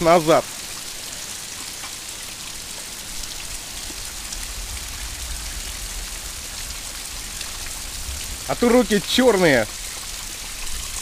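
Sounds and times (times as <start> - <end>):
heavy rain splashing into puddles: 0.0 - 11.0.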